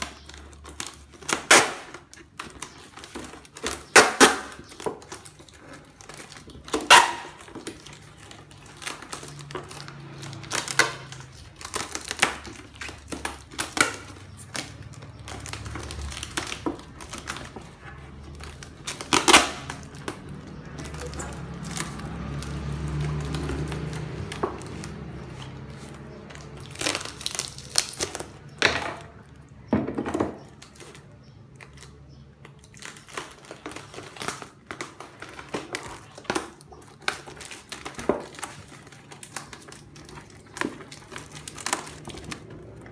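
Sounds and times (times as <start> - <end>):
paper package crinkling: 0.0 - 42.9
plastic pots clicking and knocking: 0.0 - 42.9.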